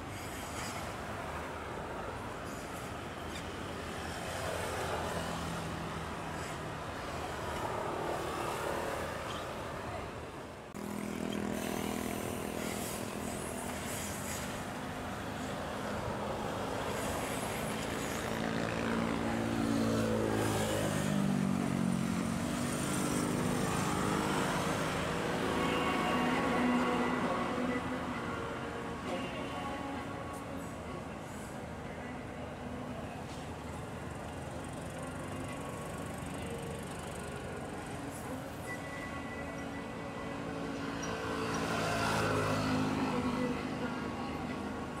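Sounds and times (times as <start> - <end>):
harbour noise: 0.0 - 45.0.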